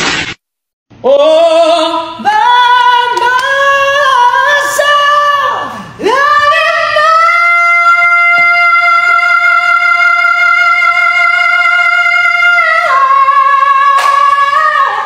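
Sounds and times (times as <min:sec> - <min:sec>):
person singing unaccompanied: 0:01.0 - 0:15.0.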